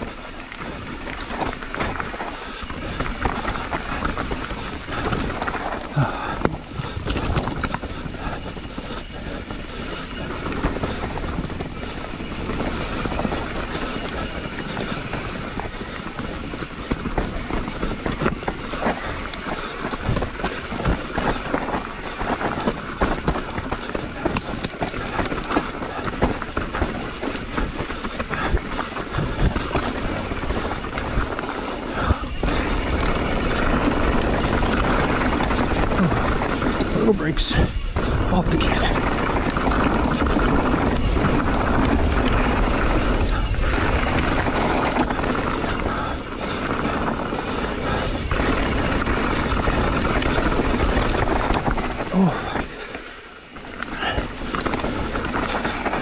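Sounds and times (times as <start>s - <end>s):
bike tyre noise on dirt: 0.0s - 56.0s
wheels knocking on rocks: 0.0s - 56.0s.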